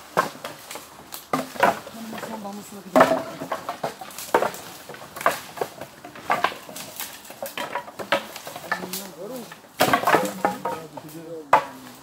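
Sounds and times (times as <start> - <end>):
wood being chopped: 0.0 - 12.0.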